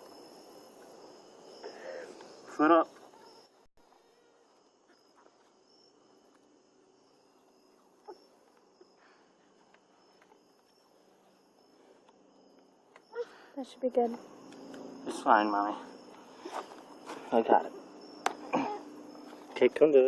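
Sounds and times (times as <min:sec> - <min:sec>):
faint insect chirring: 0:00.0 - 0:20.0.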